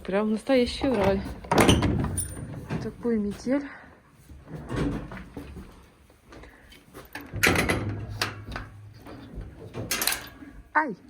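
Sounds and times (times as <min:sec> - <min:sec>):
knocks rattles and scraping: 0:00.0 - 0:10.7.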